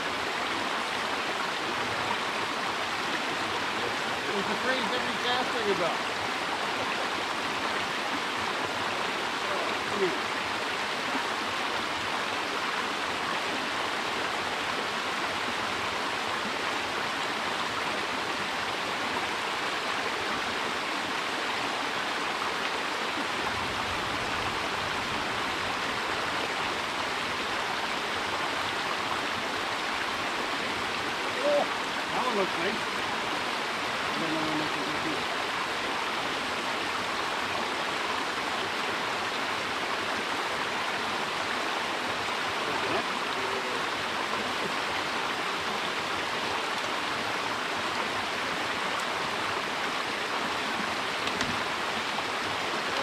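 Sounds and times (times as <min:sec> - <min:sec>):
creek water rushing over dam: 0:00.0 - 0:53.0.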